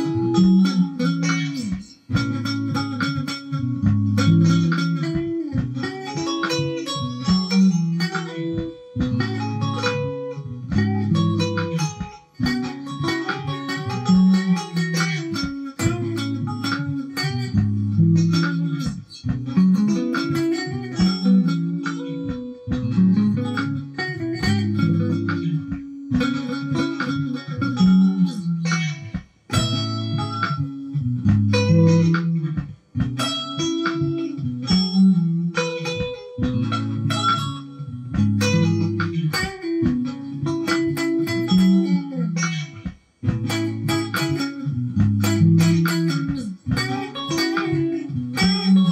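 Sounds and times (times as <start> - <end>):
electric guitar playing soul: 0.0 - 48.9.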